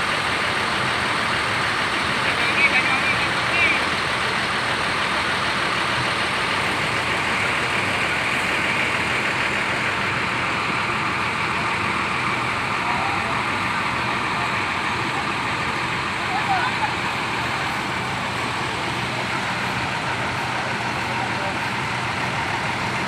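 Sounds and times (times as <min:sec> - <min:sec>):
buses idling: 0:00.0 - 0:23.0.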